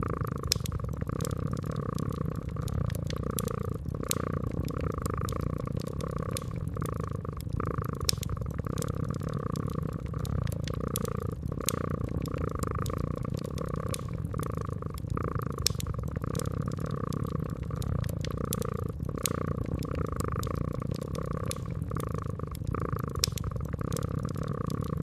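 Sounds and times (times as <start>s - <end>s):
cat purring: 0.0s - 25.0s
wood fire crackling and popping: 0.0s - 25.0s.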